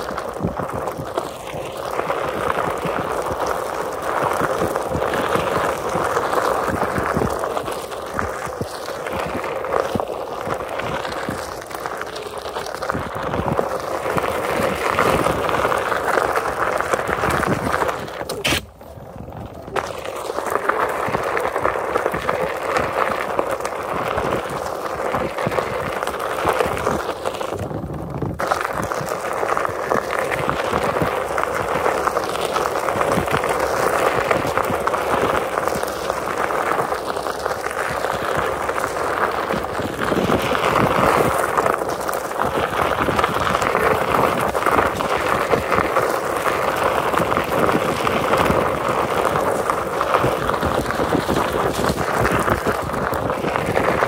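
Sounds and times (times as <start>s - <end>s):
wheel rolling on gravel: 0.0s - 54.0s.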